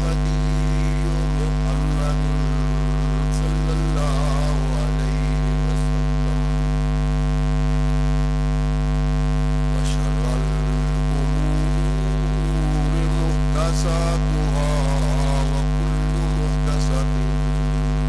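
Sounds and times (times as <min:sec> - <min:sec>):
faint man's voice: 0:00.0 - 0:06.7, 0:09.7 - 0:18.0
loud electrical mains hum: 0:00.0 - 0:18.0.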